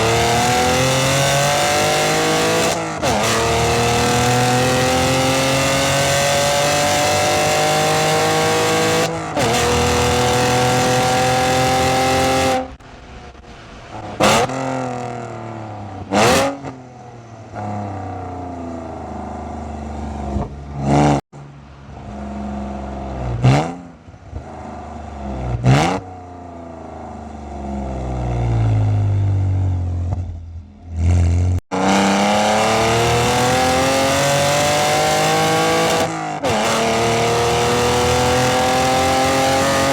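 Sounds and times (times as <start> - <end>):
car exhaust accelerating and revving: 0.0 - 16.8, 22.0 - 39.9.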